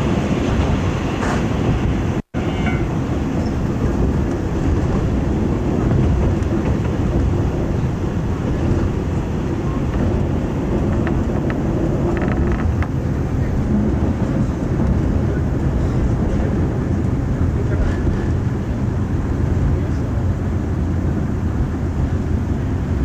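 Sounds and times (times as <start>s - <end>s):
train engine running: 0.0s - 23.0s
train wheels on rail: 0.0s - 23.0s.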